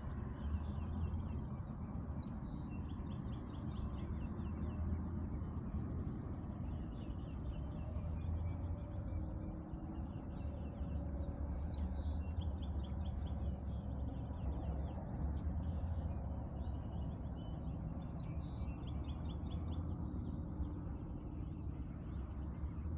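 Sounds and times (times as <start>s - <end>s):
steady low rumble: 4.1s - 22.9s.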